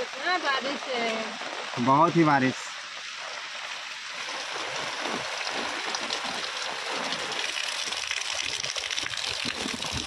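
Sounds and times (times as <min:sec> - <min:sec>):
heavy rain on an umbrella: 0:00.0 - 0:10.0.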